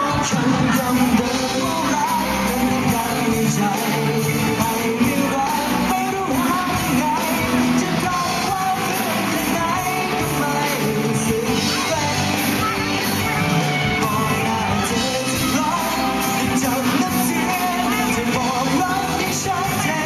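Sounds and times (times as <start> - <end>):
live pop-rock band: 0.0 - 20.0
person singing: 0.0 - 20.0.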